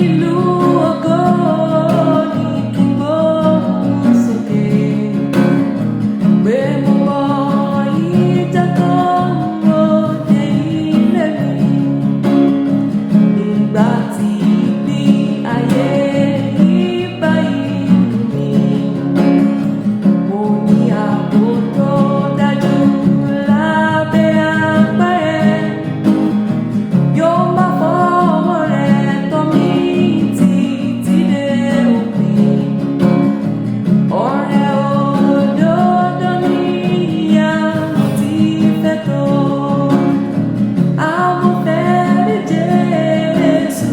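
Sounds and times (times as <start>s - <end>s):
woman singing a hymn: 0.0s - 26.2s, 27.0s - 33.4s, 34.0s - 43.9s
instrumental backing music: 0.0s - 43.9s.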